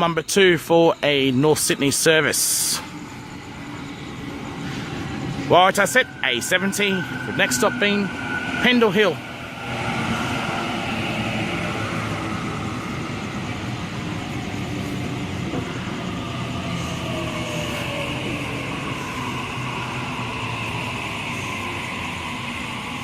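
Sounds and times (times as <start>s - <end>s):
electric train rumbling: 0.0s - 23.0s
faint falling whine: 0.0s - 23.0s.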